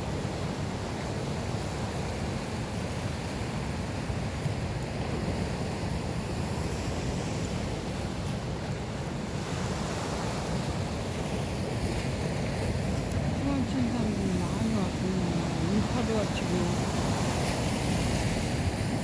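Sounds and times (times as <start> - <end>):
sea surf washing on shore: 0.0 - 19.0.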